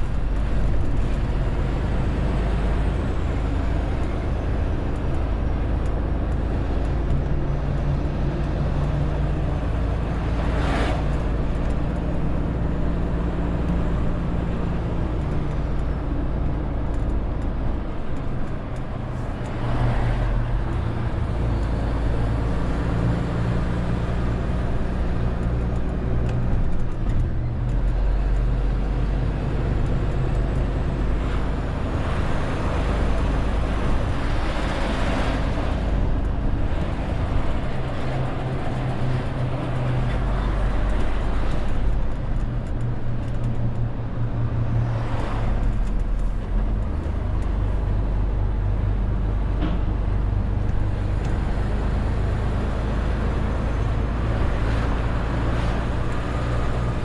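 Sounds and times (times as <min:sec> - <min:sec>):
truck diesel engine under load: 0:00.0 - 0:57.0
tyre and road noise: 0:00.0 - 0:57.0.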